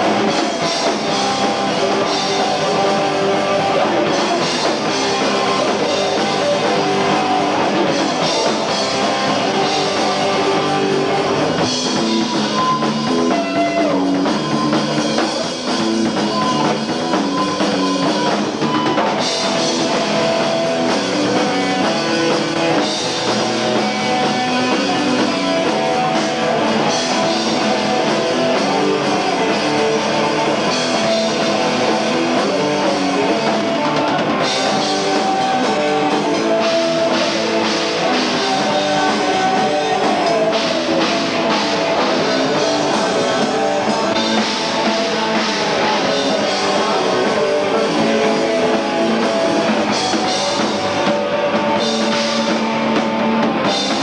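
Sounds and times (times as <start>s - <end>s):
punk band playing live: 0.0s - 54.0s.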